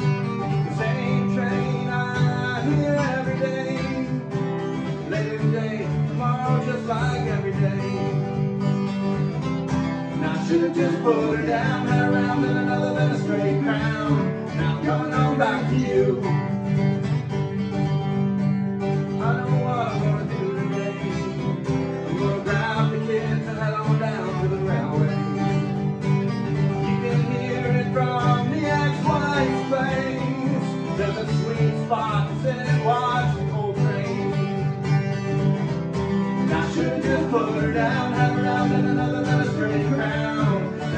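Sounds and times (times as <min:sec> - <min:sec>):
man singing: 0:00.0 - 0:08.5, 0:10.1 - 0:16.6, 0:19.0 - 0:40.9
picked lead guitar: 0:00.0 - 0:40.9
strummed acoustic guitar: 0:00.0 - 0:40.9.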